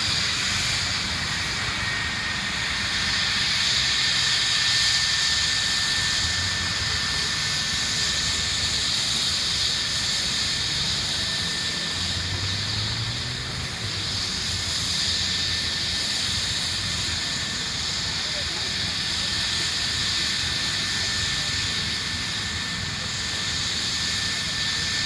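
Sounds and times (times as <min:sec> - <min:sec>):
helicopter turbine whine and rotor: 0:00.0 - 0:25.0.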